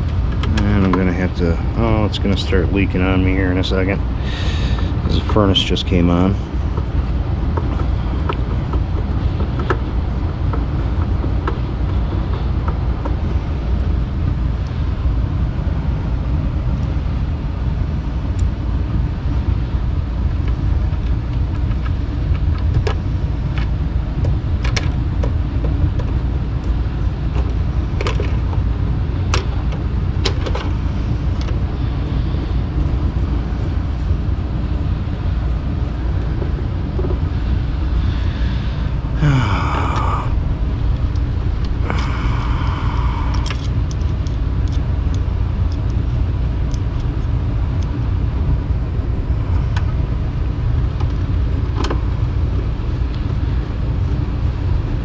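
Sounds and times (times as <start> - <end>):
furnace rumbling: 0.0 - 55.0.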